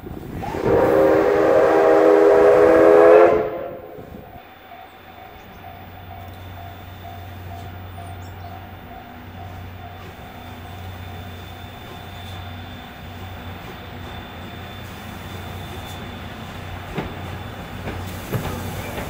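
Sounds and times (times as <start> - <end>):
locomotive low rumble: 0.0 - 19.0
steam locomotive whistle: 0.2 - 19.0.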